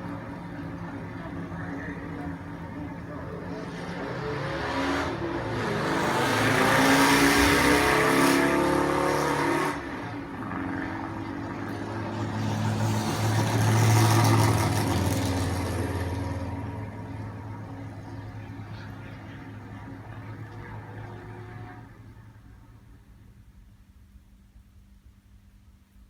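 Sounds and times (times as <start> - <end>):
racing car engines passing: 0.0 - 22.4.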